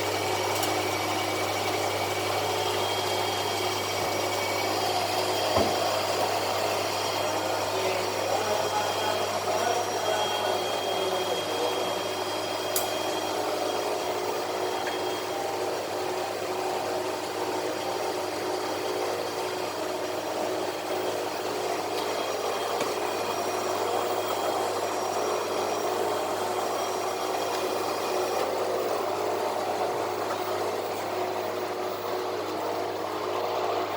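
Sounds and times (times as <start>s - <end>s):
sorting machine humming and whining: 0.0s - 33.9s.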